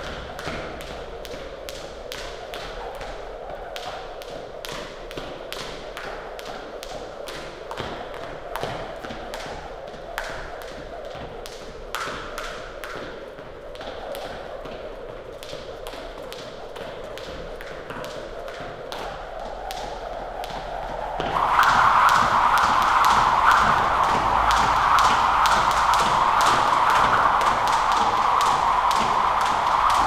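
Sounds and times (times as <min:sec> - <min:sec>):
jump rope slapping floor: 0:00.0 - 0:30.0.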